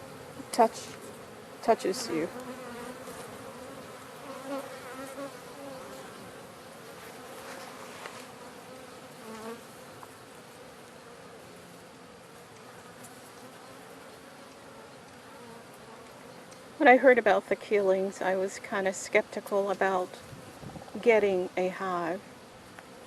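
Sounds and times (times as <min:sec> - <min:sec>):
honey bees buzzing: 0:00.0 - 0:23.0.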